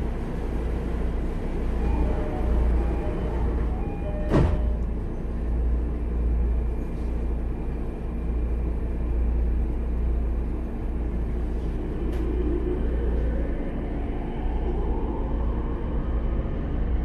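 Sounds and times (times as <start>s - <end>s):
faint steady whine: 0.0s - 17.0s
train wheels and motors rumbling: 0.0s - 17.0s.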